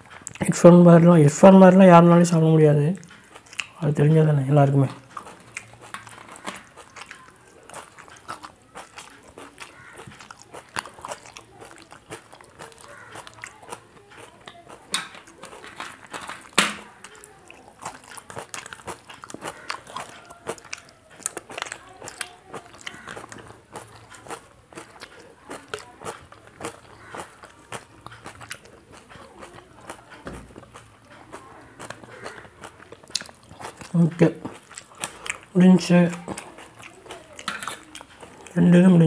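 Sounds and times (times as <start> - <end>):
chewing and crunching chicken: 0.0 - 39.0
wet mouth sounds: 4.8 - 39.0.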